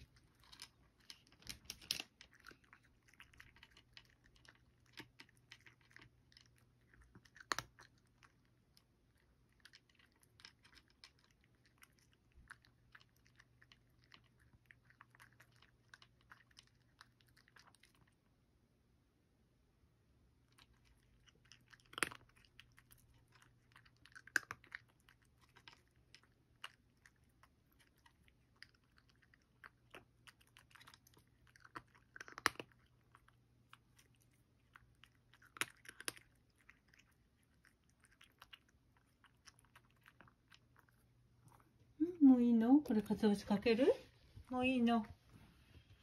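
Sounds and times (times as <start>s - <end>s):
cat crunching dry kibble: 0.0s - 18.3s, 20.4s - 41.8s.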